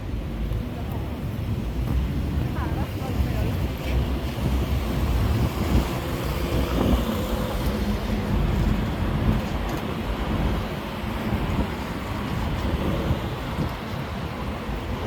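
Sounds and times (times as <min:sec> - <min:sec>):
passing vehicles rumbling: 0:00.0 - 0:15.0.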